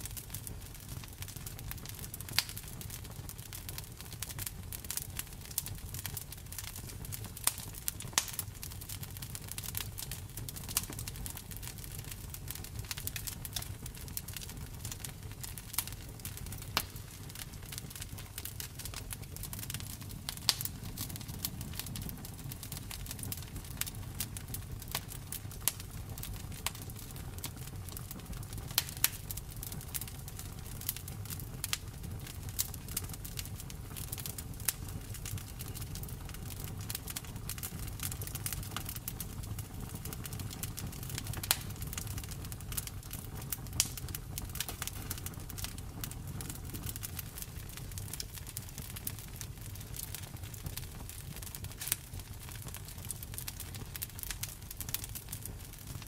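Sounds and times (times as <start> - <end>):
low rumble of flames: 0.0 - 56.0
wood fire popping and snapping: 0.0 - 56.0.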